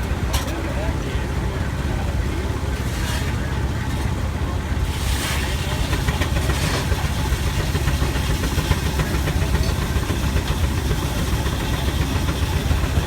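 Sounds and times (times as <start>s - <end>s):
steam traction engine pulsing: 0.0s - 13.0s.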